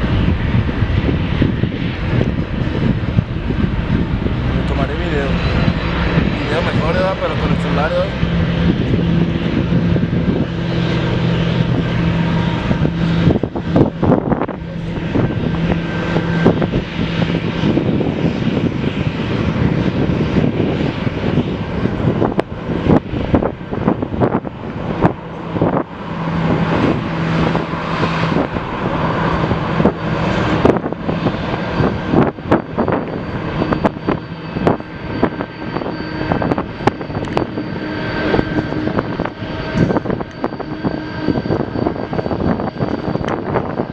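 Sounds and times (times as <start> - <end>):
jet engines droning: 0.0 - 43.9.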